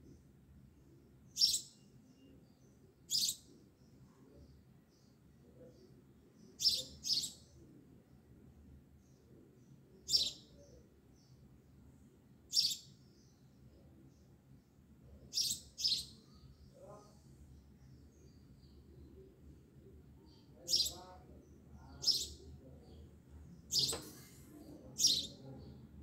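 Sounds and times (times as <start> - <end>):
bird chirping: 1.3 - 7.7, 9.0 - 11.5, 12.5 - 25.9.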